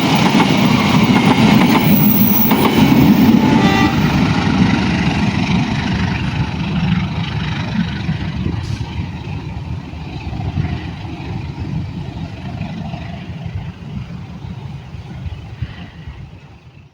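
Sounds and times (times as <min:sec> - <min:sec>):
train rumbling past: 0:00.0 - 0:16.9.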